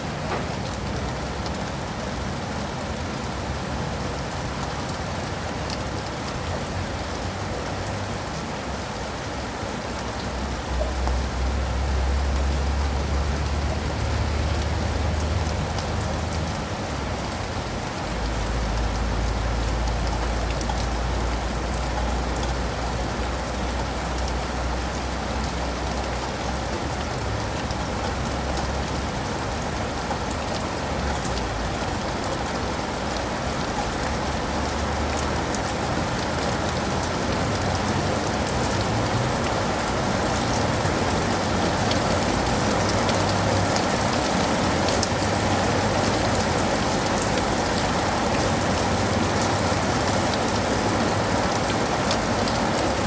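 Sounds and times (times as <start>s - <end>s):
rain on leaves and pavement: 0.0s - 53.0s.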